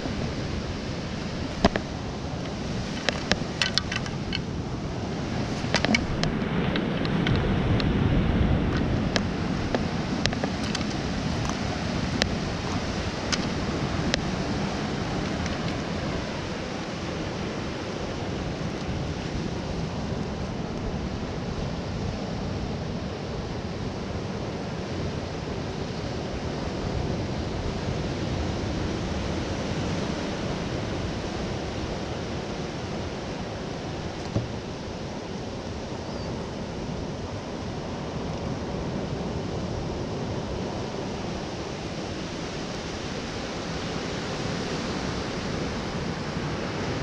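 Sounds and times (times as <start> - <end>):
sea surf washing on shore: 0.0 - 47.0
wind buffeting microphone: 0.0 - 47.0.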